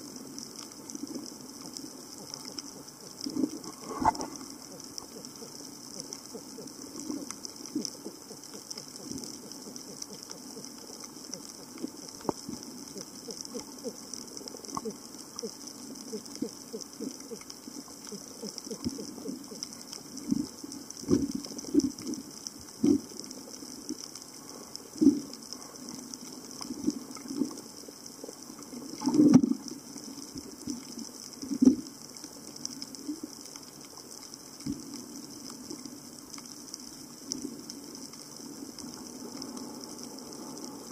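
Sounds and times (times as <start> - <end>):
underwater hiss with crackling: 0.0 - 40.9.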